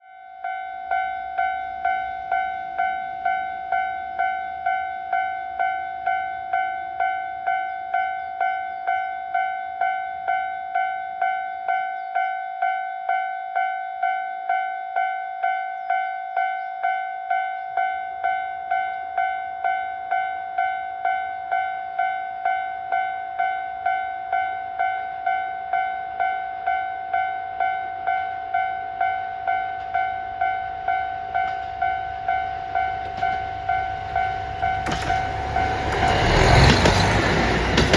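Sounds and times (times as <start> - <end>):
level crossing warning bell: 0.0 - 37.9.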